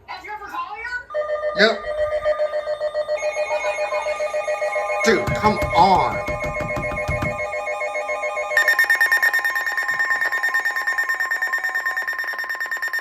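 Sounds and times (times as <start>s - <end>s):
electronic alert tone: 1.1s - 13.0s.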